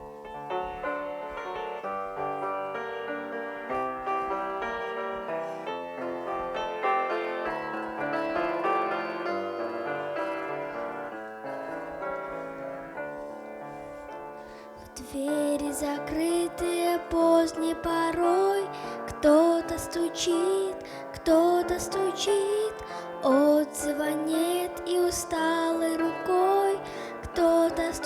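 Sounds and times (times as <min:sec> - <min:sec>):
piano playing hymn: 0:00.0 - 0:28.0.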